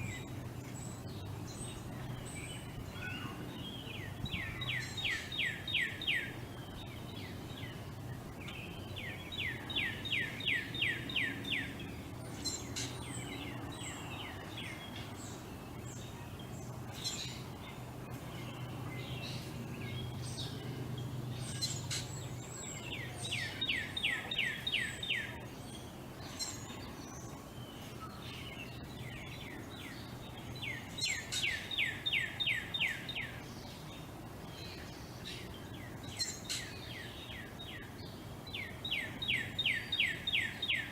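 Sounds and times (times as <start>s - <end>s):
birds chirping: 0.0s - 40.9s
steady low hum: 0.0s - 40.9s.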